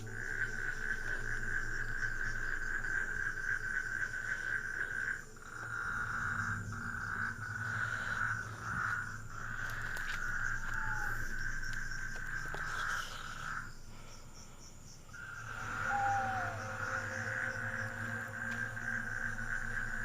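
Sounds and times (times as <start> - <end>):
fast-pulsing insect trill: 0.0 - 20.0.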